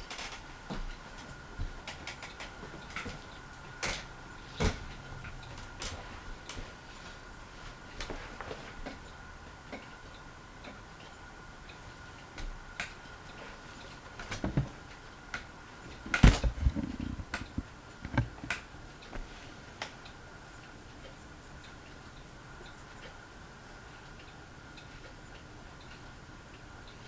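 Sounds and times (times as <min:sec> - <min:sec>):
ceiling fan whine: 0:00.0 - 0:27.0
fan ticks and clicks: 0:00.0 - 0:27.0.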